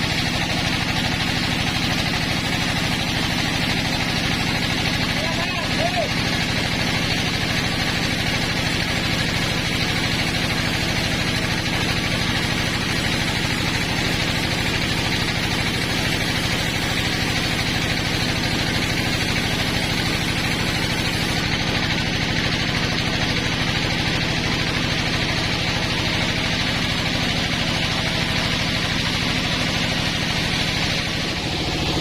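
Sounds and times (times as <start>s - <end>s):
sawmill machinery humming: 0.0s - 32.0s.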